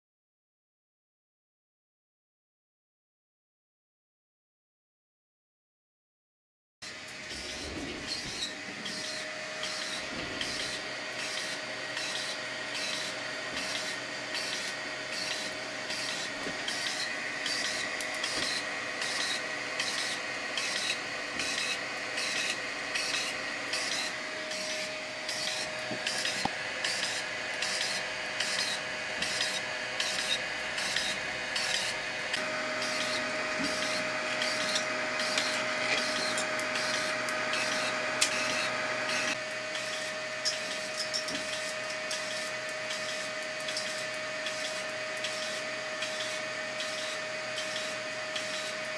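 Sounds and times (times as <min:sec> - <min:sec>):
stepper motor whining: 0:06.8 - 0:48.9.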